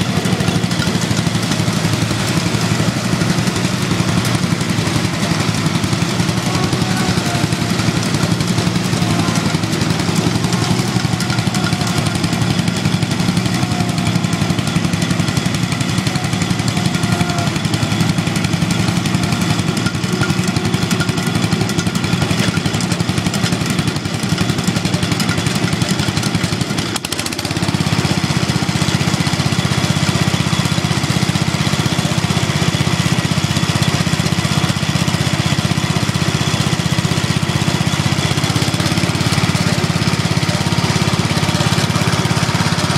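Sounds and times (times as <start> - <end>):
garden tractor engines running: 0.0 - 42.9.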